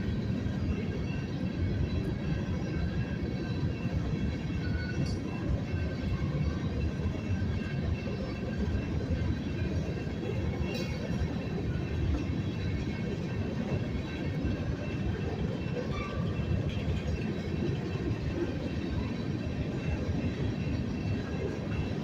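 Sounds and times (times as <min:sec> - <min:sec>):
freight train wheels rumbling on rail: 0:00.0 - 0:22.0.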